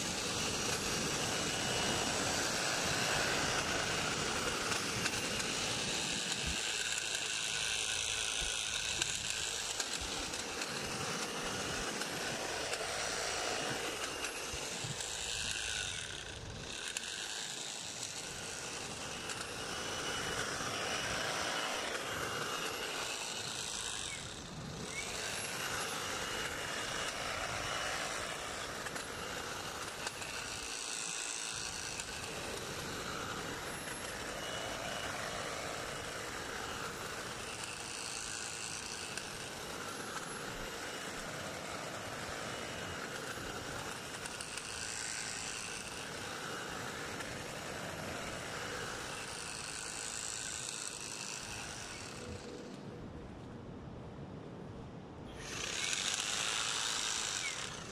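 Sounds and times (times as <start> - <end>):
hedge trimmer cutting hedge: 0.0 - 53.0, 55.3 - 57.9.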